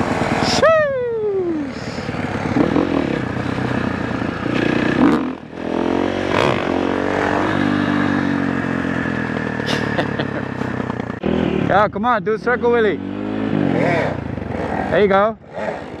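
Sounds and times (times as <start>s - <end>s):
dirt bike engine revving: 1.5s - 16.0s.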